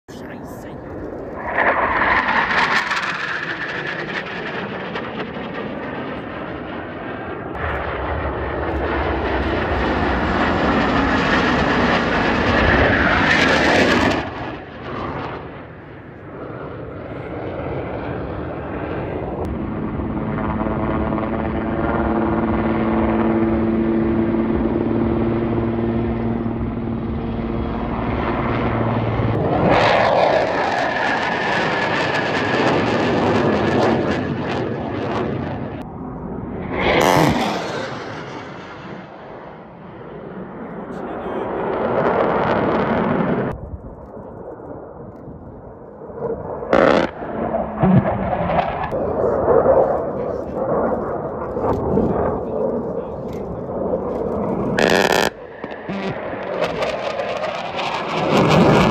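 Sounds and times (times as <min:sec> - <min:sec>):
fighter jets flying low: 0:00.1 - 0:58.9
low engine drone: 0:00.1 - 0:58.9.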